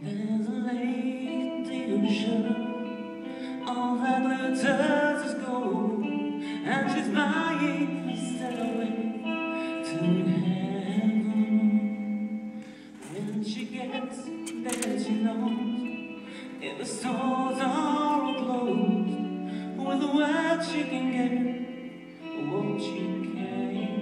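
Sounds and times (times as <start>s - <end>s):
lead vocal singing: 0.0s - 24.0s.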